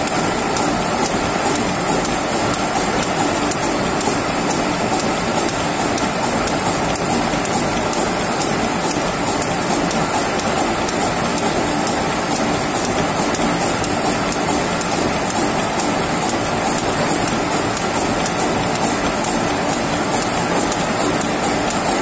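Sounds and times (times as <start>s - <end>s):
gear-cutting machine clattering: 0.0s - 22.0s
light mechanical ticking: 0.0s - 22.0s.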